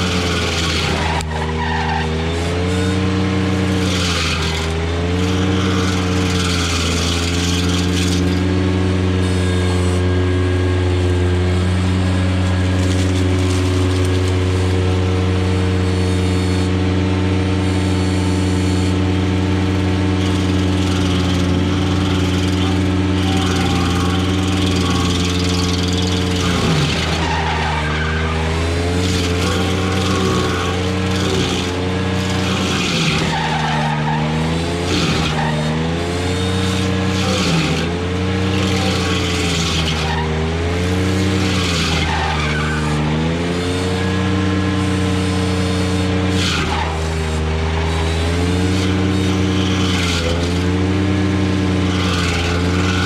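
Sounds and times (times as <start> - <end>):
stump grinder cutter whine: 0.0 - 53.0
tractor engine running: 0.0 - 53.0.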